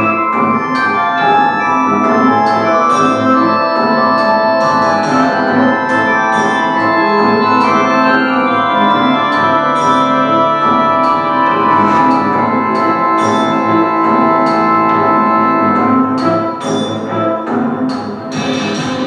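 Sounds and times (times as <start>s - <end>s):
music with sustained chords: 0.0s - 19.0s.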